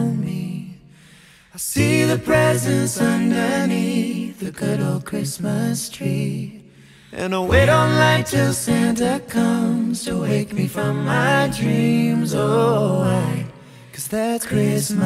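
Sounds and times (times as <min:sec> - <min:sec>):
a cappella singing: 0:00.0 - 0:15.0.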